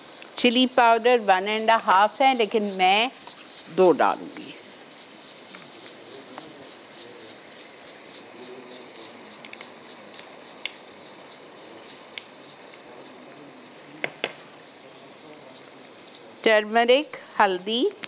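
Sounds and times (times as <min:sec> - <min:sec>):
masala sizzling in a pan: 0:00.0 - 0:18.0.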